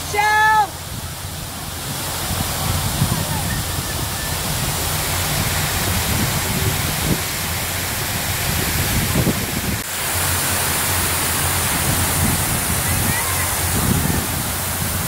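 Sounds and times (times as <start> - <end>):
waterfall splashing into lake: 0.0 - 15.0.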